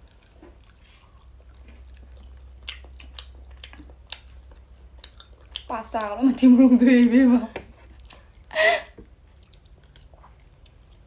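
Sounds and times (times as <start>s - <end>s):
person chewing noodles: 0.0s - 6.2s, 7.7s - 11.0s
low steady hum: 0.0s - 11.0s.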